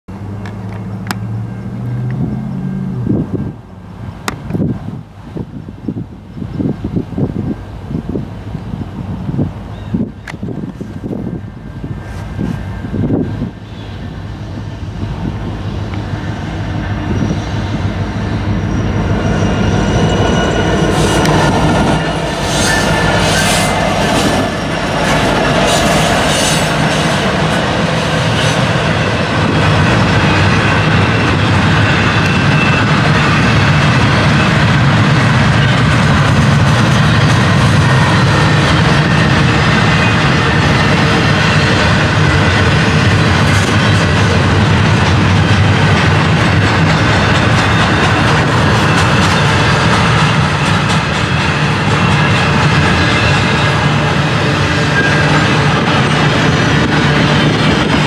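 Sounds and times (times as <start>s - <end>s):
diesel locomotives passing: 0.1s - 58.0s
train wheels rumbling on rails: 0.1s - 58.0s.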